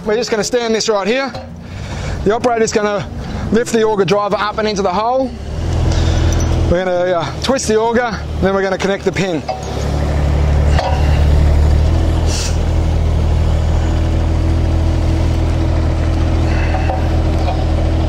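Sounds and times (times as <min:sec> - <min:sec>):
diesel engine running: 0:00.0 - 0:18.0
hydraulic whine: 0:01.3 - 0:18.0.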